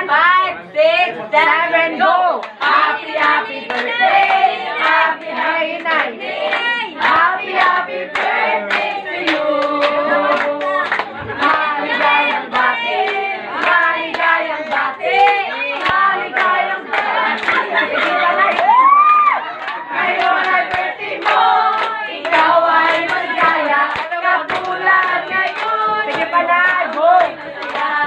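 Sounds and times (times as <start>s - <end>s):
people singing: 0.0s - 28.0s
group clapping hands: 1.4s - 28.0s.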